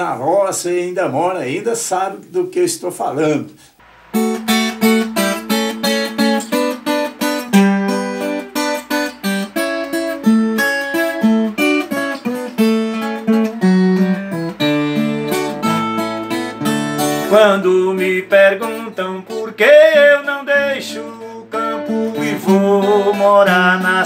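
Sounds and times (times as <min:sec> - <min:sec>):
acoustic guitar melody: 0:03.8 - 0:24.0.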